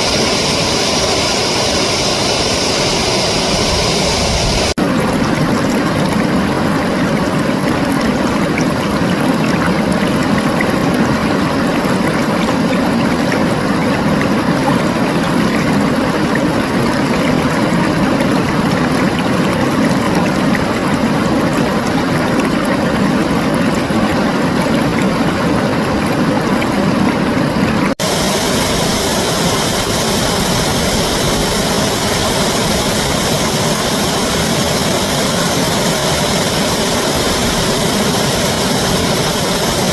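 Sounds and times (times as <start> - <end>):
reversed rushing water roar: 0.0 - 39.9.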